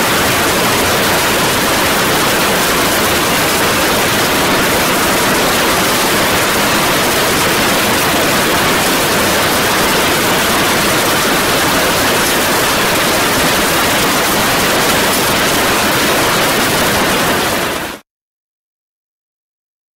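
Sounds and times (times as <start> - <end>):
heavy rain pouring on street: 0.0 - 18.0.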